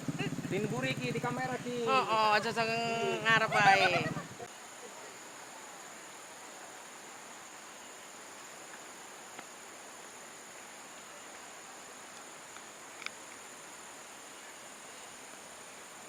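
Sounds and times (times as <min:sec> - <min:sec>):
faint even hiss: 0:00.0 - 0:16.0
insects droning: 0:00.0 - 0:16.0.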